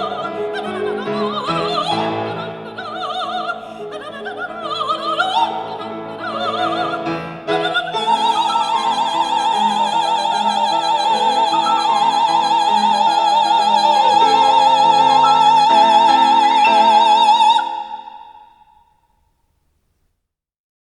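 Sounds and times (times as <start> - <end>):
operatic singing with orchestra: 0.0 - 18.7.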